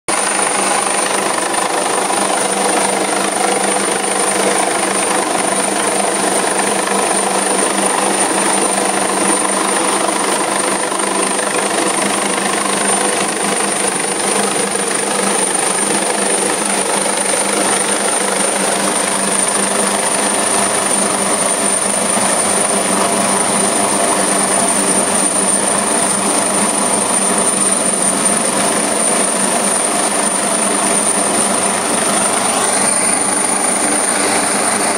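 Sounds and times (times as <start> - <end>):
helicopter rotor and engine: 0.1 - 34.9
high turbine whine: 0.1 - 34.9.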